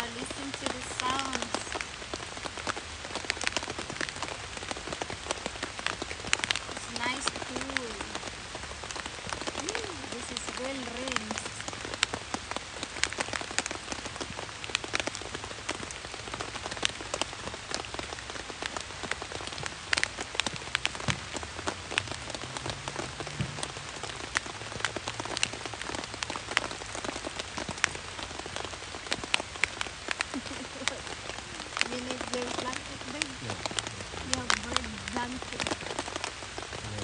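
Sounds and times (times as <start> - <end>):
rain drops tapping on tent: 0.0 - 37.0
steady rain hiss: 0.0 - 37.0.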